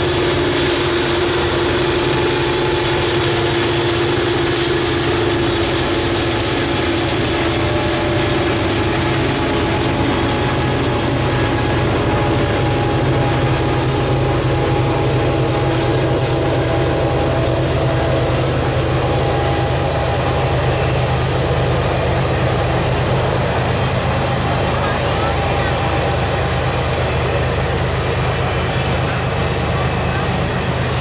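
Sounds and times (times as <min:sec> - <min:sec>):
low hum: 0:00.0 - 0:31.0
train wheels on rails: 0:00.0 - 0:31.0.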